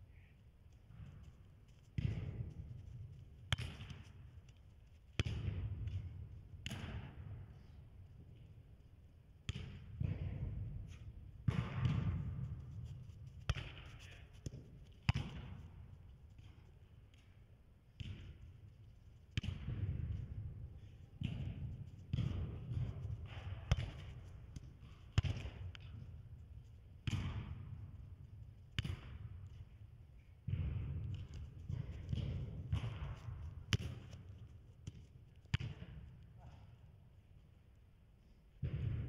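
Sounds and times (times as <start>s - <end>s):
football kicks echoing in a hall: 0.0s - 39.0s.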